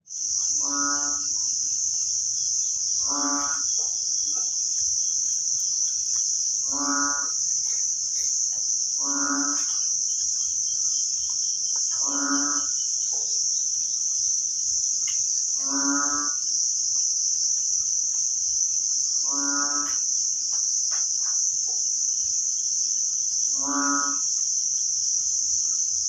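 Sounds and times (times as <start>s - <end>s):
high-pitched insect drone: 0.1s - 26.0s.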